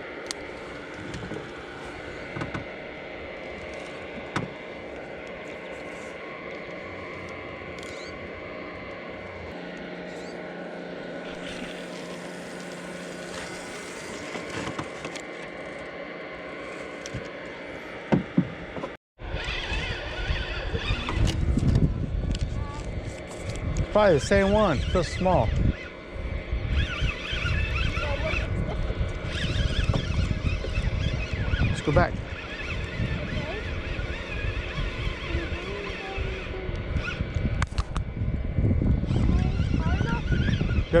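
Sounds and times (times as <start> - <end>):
distant engine drone: 0.0 - 41.0.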